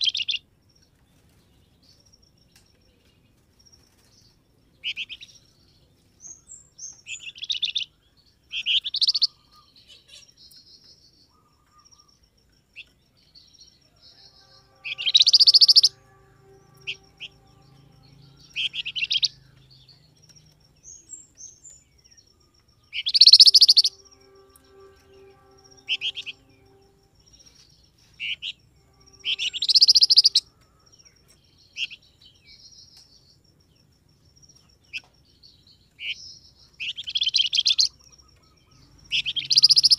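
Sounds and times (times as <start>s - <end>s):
faint high steady tone: 0.0s - 39.9s
songbird chirping: 0.0s - 39.9s.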